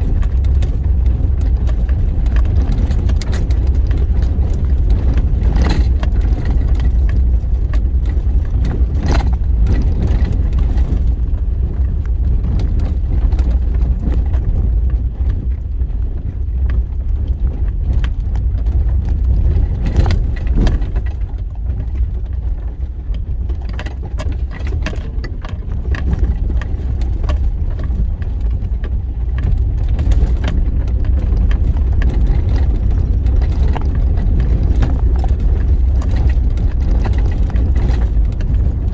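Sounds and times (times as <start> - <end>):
rattles and knocks from bumps: 0.0 - 38.9
vehicle rumbling on dirt road: 0.0 - 38.9.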